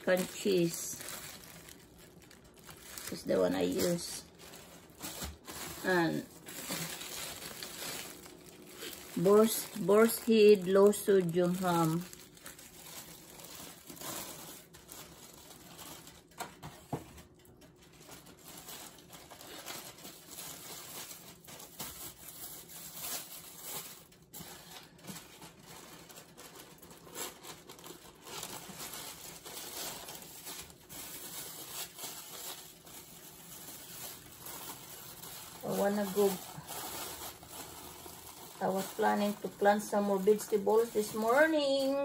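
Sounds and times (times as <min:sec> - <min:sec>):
plastic bag crinkling: 0:00.0 - 0:42.0.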